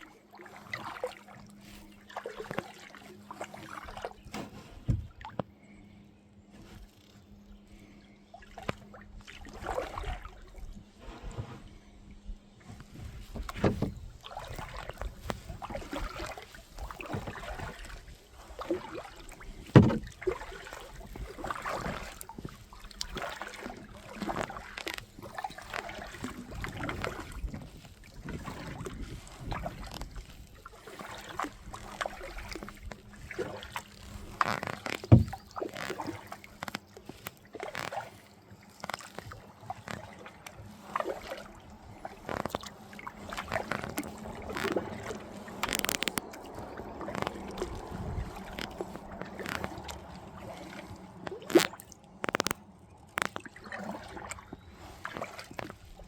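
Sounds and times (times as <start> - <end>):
paddle splashes: 0.0 - 5.7, 6.5 - 11.8, 12.6 - 56.0
water sloshing: 0.0 - 5.7, 6.4 - 56.0.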